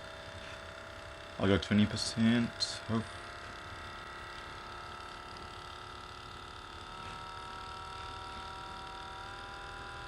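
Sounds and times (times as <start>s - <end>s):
massage gun motor buzzing: 0.0s - 10.0s.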